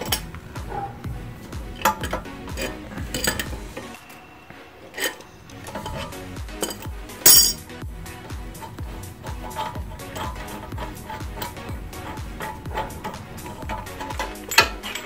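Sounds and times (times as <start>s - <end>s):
metal tools clinking: 0.0s - 4.2s, 4.8s - 7.6s, 8.5s - 15.0s
background music: 0.0s - 15.0s.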